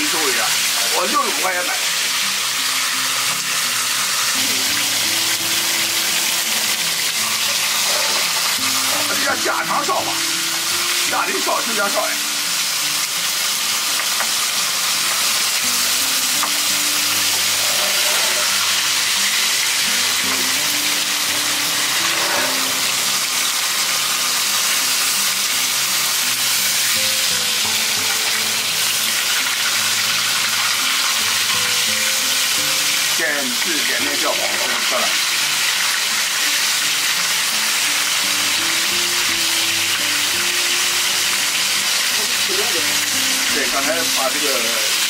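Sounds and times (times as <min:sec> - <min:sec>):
fish and pork sizzling in oil: 0:00.0 - 0:45.0.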